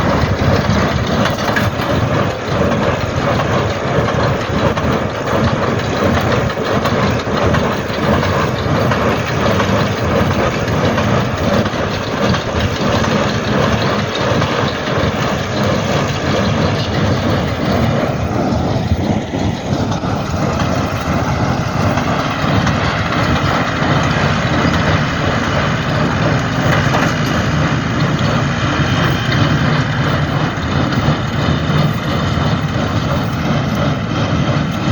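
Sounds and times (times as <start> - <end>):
baler machinery running: 0.0 - 34.9.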